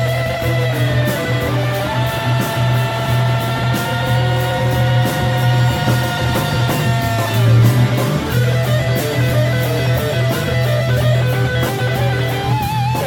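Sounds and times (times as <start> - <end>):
bass guitar: 0.0 - 13.0
drums: 0.0 - 13.0
electric guitar playing bluesy rock: 0.0 - 13.0.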